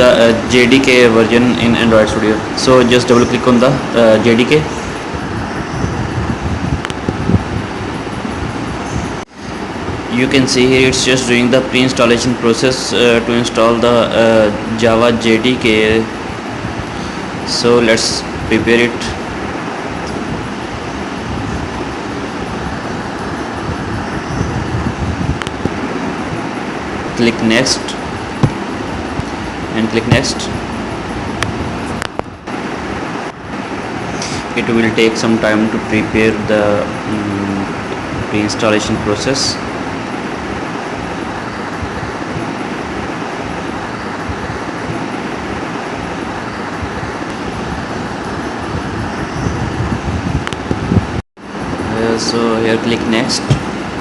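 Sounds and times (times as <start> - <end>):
constant hum and hiss: 0.0 - 54.0.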